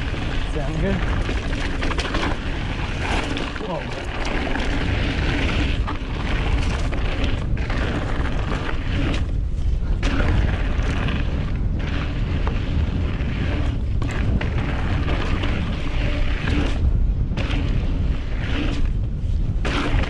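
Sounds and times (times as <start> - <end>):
bike tyres on dirt trail: 0.0 - 20.0
wind buffeting microphone: 0.0 - 20.0.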